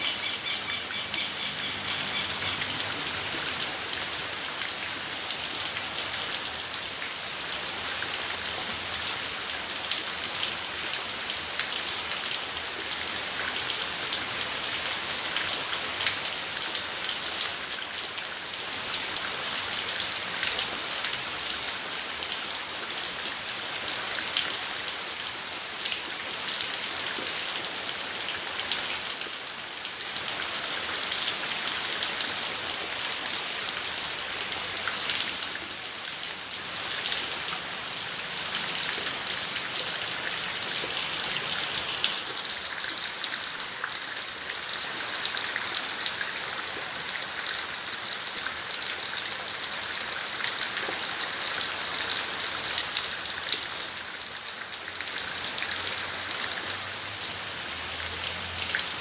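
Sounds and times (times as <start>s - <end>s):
rain falling: 0.0s - 59.0s
raindrops ticking on surfaces: 0.0s - 59.0s.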